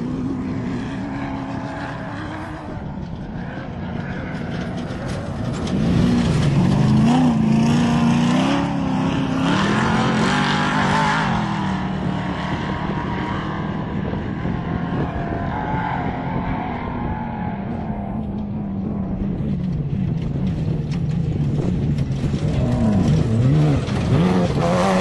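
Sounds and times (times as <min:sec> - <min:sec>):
race vehicle engine passing: 0:00.0 - 0:25.0.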